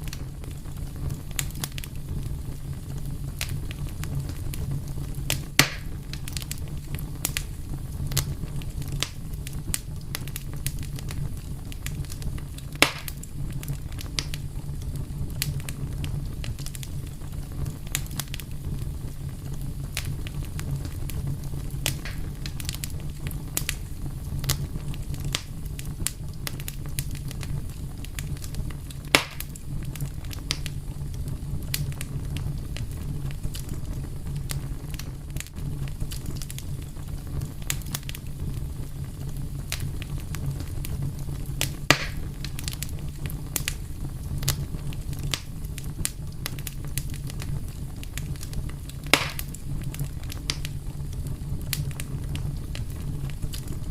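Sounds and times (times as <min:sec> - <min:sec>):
fire crackling and popping: 0:00.0 - 0:53.9
low rumble of flame: 0:00.0 - 0:53.9.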